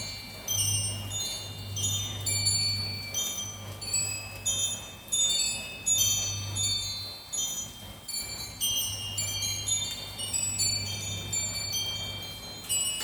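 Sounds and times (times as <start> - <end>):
metal wind chime ringing: 0.0 - 13.0.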